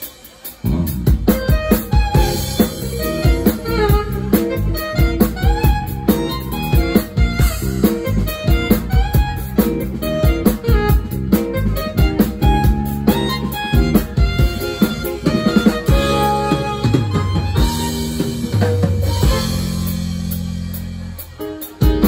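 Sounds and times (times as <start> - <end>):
drum kit beat: 0.0 - 22.0
live band playing instrumental: 0.0 - 22.0
melodic lead with sliding notes: 0.0 - 22.0.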